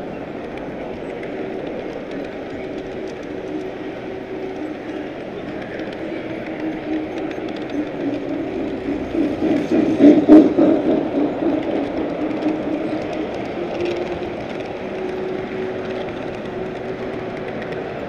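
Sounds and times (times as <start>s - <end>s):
model train wheels rumbling: 0.0s - 18.0s
whining tone: 0.2s - 18.0s.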